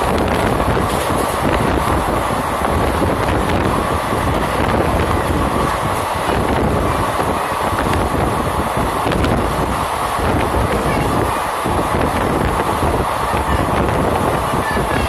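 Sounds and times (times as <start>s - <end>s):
train wheels rumbling: 0.0s - 15.0s
wind rushing on microphone: 0.0s - 15.0s.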